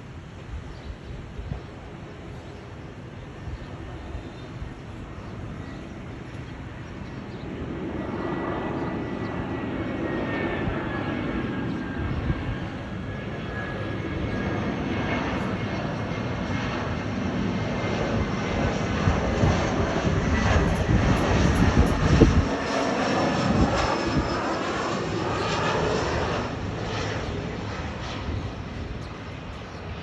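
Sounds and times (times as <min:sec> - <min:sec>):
jet engines roaring: 0:01.5 - 0:30.0.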